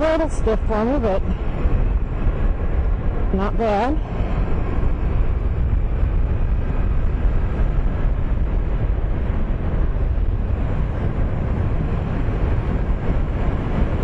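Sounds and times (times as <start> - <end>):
wind rumbling over microphone: 0.0 - 14.0.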